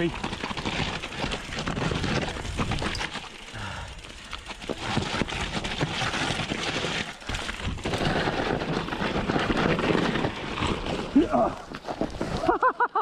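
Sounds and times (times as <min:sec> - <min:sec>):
bike knocking and rattling: 0:00.0 - 0:13.0
bike tyres crackling over dirt: 0:00.0 - 0:13.0.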